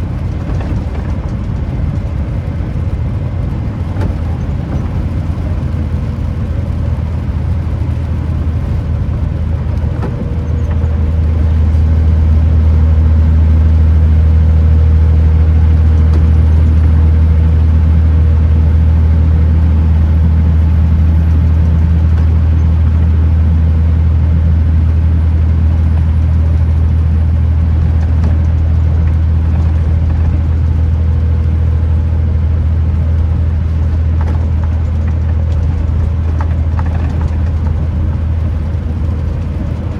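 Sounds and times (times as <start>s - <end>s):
diesel truck engine droning: 0.0s - 39.9s
road noise: 0.0s - 39.9s.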